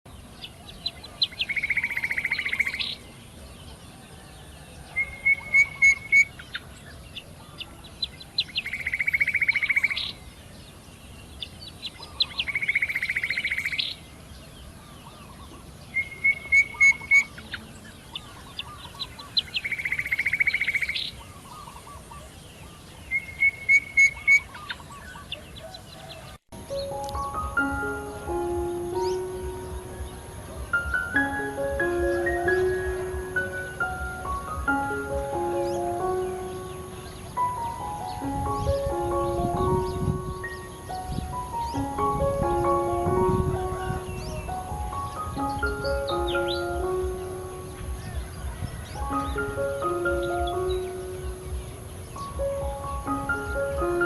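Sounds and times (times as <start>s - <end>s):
songbird trilling and singing: 0.1s - 54.0s.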